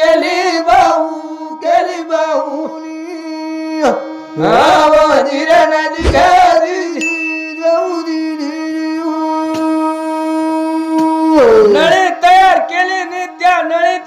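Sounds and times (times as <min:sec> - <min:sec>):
person singing folk melody: 0:00.0 - 0:14.0.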